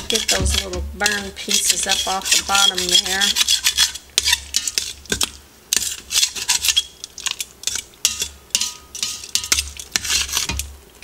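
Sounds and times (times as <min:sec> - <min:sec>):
metal tongs scraping a steel pot: 0:00.0 - 0:10.7.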